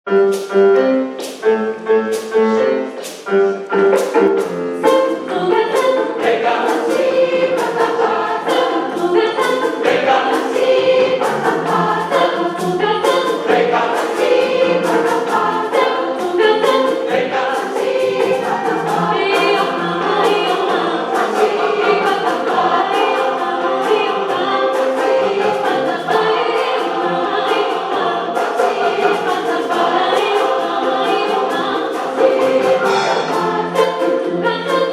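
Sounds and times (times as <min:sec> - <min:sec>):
choir singing in harmony: 0:01.2 - 0:34.9
percussion beat: 0:02.9 - 0:34.9.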